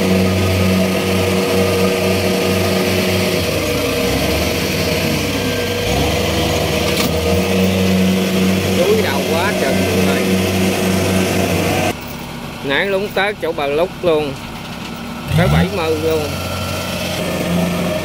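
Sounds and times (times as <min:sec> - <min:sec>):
harvester diesel engine running: 0:00.0 - 0:18.0.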